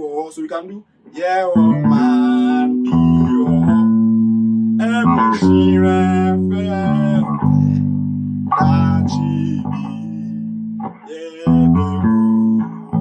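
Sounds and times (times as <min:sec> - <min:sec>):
bass guitar plucked notes: 0:01.5 - 0:13.0.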